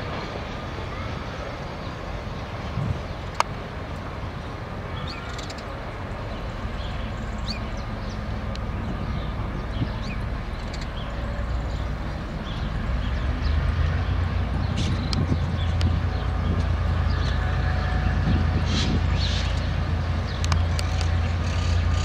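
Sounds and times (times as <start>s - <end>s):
distant diesel locomotive rumble: 0.0s - 22.0s.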